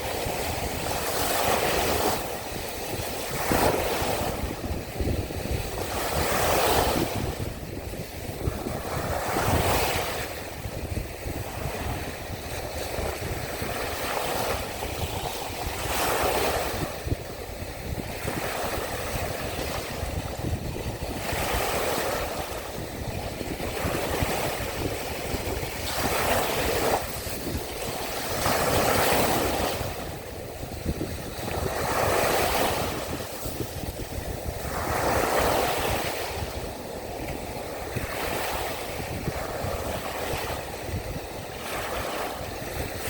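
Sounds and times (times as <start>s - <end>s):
sea waves washing ashore: 0.0s - 43.0s
wind rumble on microphone: 0.0s - 43.0s.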